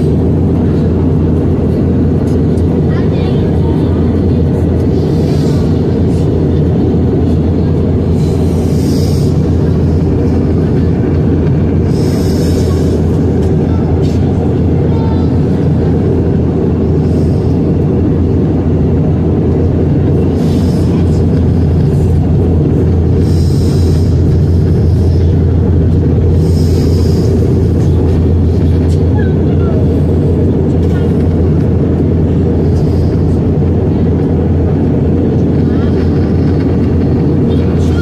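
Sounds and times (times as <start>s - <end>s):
jet engine and airflow roar: 0.0s - 38.0s.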